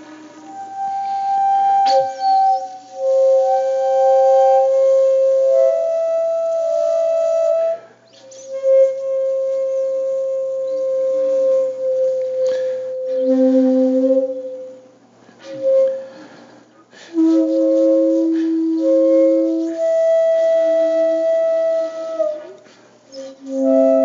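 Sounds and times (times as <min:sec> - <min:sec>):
slow music of held notes: 0:00.0 - 0:24.0.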